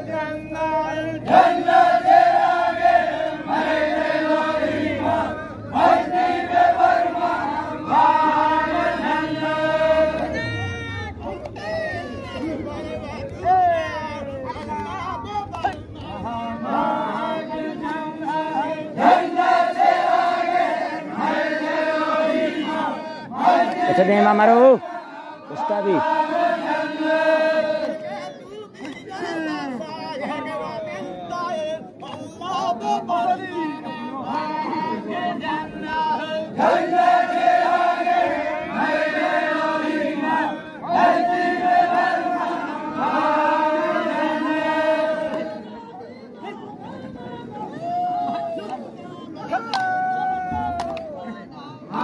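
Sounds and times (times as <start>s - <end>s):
men chanting in chorus: 0.0s - 47.7s.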